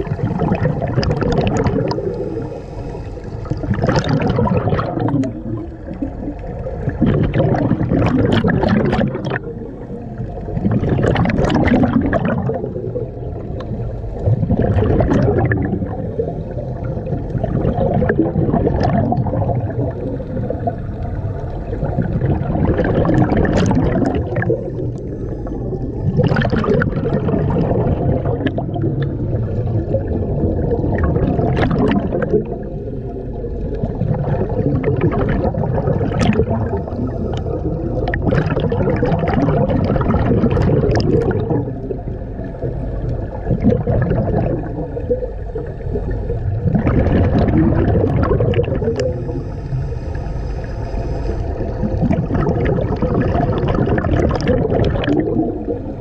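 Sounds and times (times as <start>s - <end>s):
exhaled bubbles gurgling: 0.0s - 56.0s
low underwater rumble: 0.0s - 56.0s.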